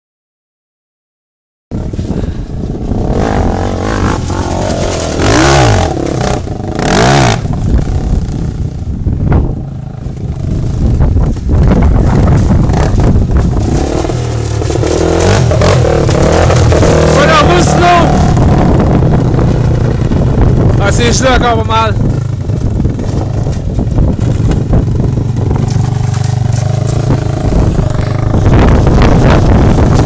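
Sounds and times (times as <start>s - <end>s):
atv engine revving: 1.8s - 30.0s.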